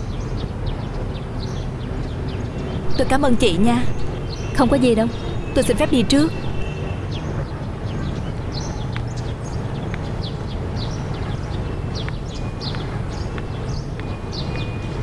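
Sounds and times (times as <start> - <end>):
small birds chirping: 0.0 - 15.0
street traffic hum: 0.0 - 15.0.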